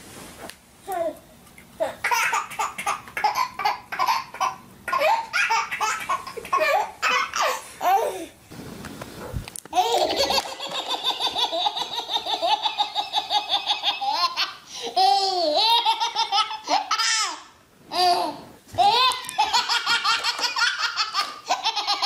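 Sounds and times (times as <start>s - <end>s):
baby belly laughing: 1.8s - 8.3s, 9.8s - 22.0s.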